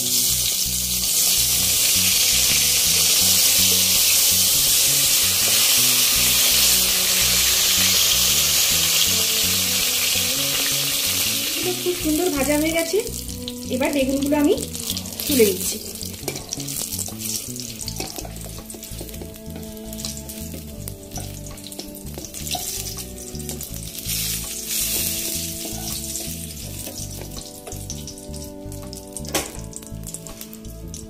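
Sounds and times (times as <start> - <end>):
hot oil sizzling in a frying pan: 0.0 - 31.0.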